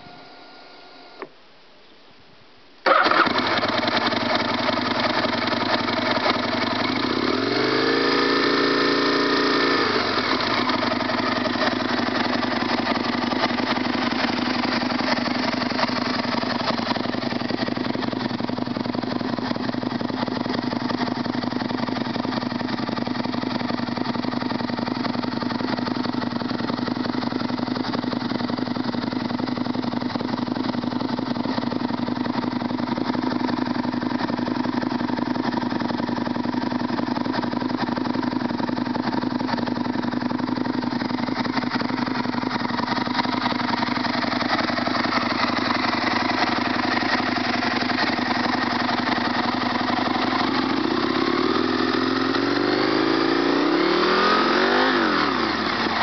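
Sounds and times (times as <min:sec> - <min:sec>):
motorcycle engine idling: 0:02.8 - 0:56.0.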